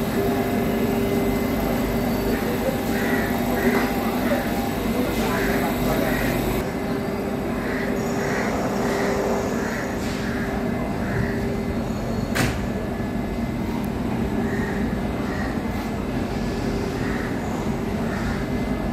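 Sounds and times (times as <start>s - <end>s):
train machinery hum: 0.0s - 18.9s.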